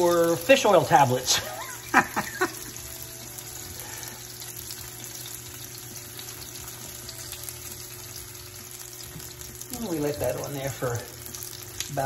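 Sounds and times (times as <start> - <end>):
fish fillets sizzling in oil: 0.0 - 12.0.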